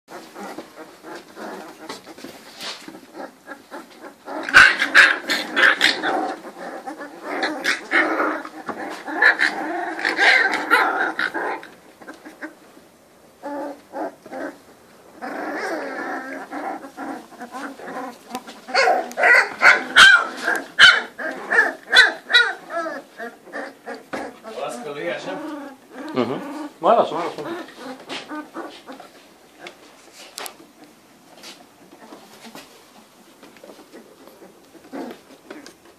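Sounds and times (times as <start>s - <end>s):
puppies whining and yelping: 0.1s - 12.8s, 13.4s - 29.9s, 33.6s - 35.9s.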